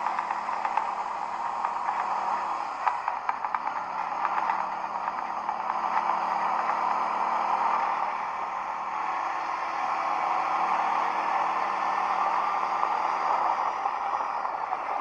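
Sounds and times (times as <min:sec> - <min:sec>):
atv engine running: 0:00.0 - 0:15.0
loud steady hiss: 0:00.0 - 0:15.0.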